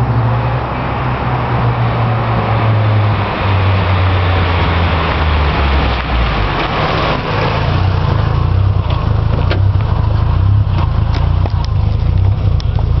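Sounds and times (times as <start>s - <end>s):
car exhaust drone: 0.0s - 13.0s.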